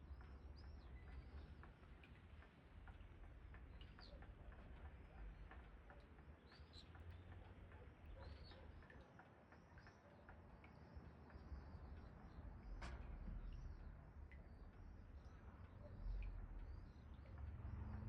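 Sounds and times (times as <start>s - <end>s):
faint rain pattering: 0.0s - 18.0s.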